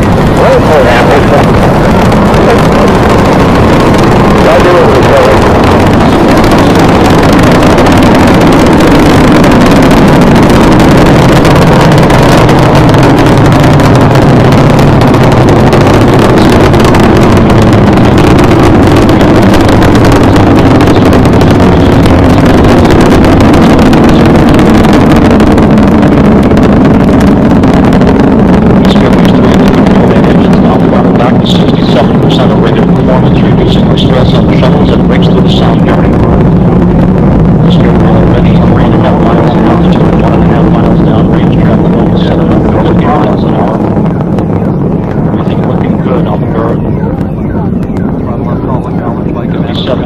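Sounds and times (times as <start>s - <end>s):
rocket engines rumbling: 0.0s - 50.0s.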